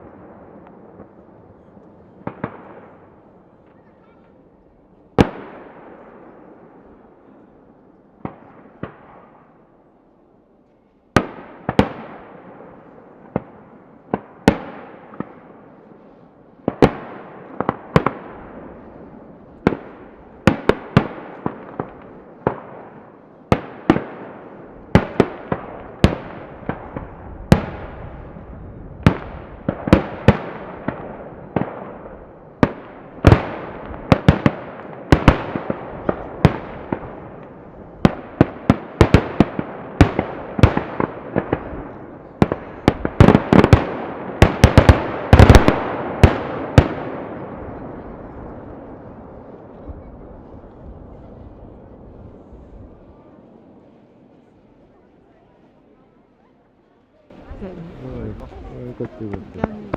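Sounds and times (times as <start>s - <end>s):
distant firework bursts: 0.0s - 10.0s, 11.1s - 53.8s.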